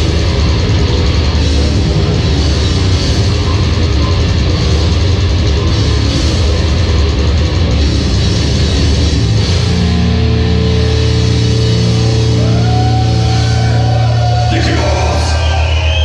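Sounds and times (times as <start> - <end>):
death metal band playing: 0.0 - 16.0.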